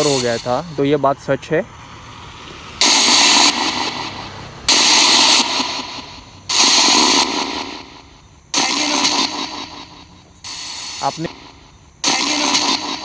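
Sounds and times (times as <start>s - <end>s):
radio static bursts: 0.0s - 1.0s, 2.6s - 13.0s.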